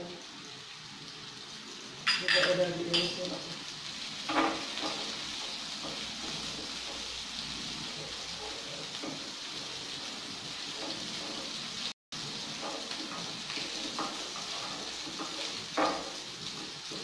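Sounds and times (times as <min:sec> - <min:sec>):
food frying in hot oil: 0:00.0 - 0:17.0.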